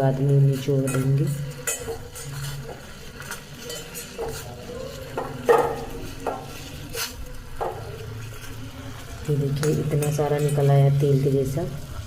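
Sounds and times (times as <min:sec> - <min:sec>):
water simmering: 0:00.0 - 0:12.0
spoon knocking and scraping pan: 0:00.4 - 0:11.8.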